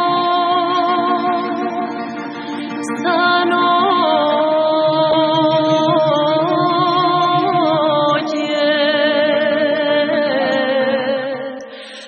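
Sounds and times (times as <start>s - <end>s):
person singing folk song: 0.0s - 12.0s.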